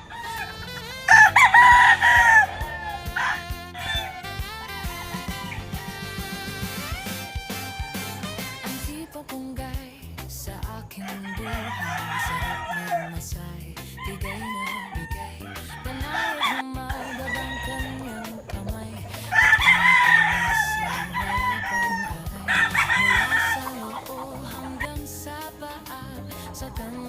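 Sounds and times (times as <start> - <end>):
rooster crowing: 0.0 - 9.2, 10.9 - 27.0
chickens clucking: 0.0 - 9.8, 10.7 - 27.0
background music: 0.0 - 27.0.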